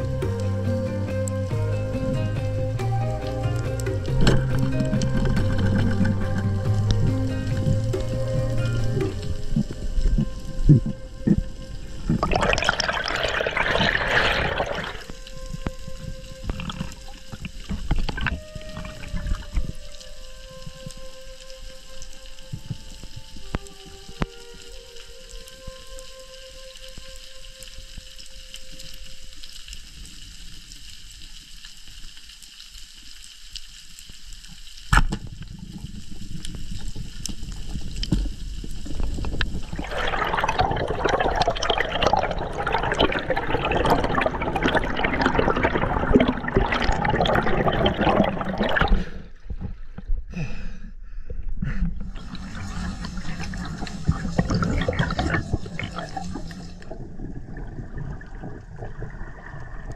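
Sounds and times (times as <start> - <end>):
rushing bubbling water: 0.0 - 32.0, 34.4 - 50.2, 51.7 - 59.9.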